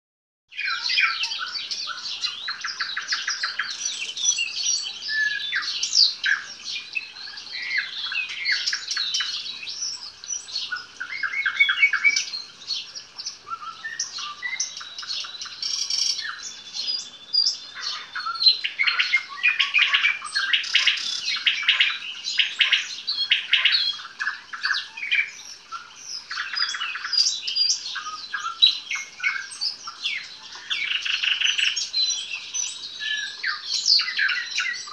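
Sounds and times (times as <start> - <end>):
nightingale singing: 0.5 - 34.9.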